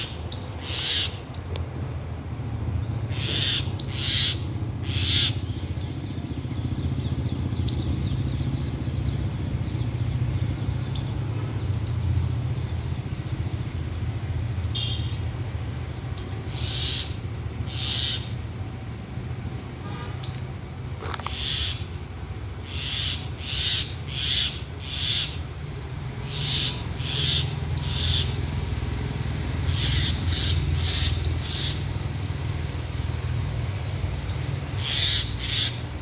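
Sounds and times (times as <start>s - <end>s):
birds giving harsh calls: 0.0s - 2.0s, 2.7s - 13.4s, 14.1s - 18.9s, 19.8s - 28.6s, 29.6s - 32.1s, 34.2s - 36.0s.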